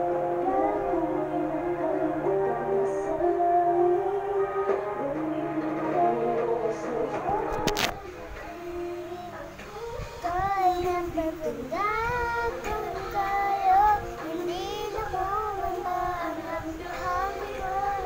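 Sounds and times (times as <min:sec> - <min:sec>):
girl singing into microphone: 0:00.0 - 0:18.0.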